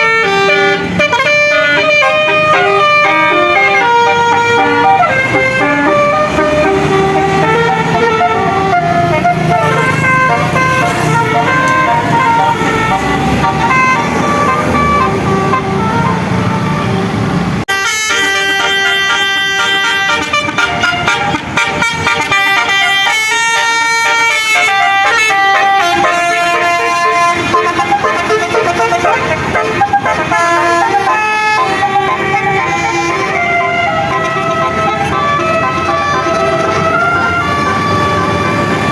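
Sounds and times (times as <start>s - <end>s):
bus engine rumble: 0.0s - 38.9s
musical bus horn melody: 0.0s - 38.9s.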